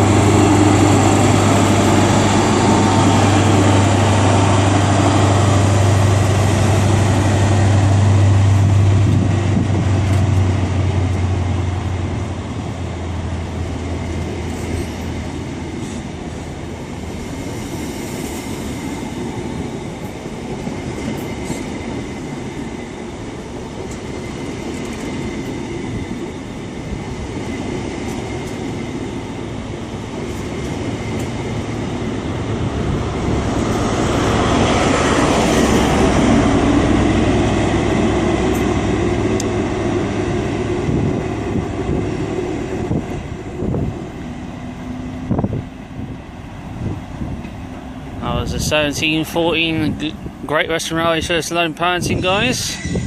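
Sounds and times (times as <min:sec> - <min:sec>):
train engine drone: 0:00.0 - 0:53.0
train wheels on rails: 0:00.0 - 0:53.0.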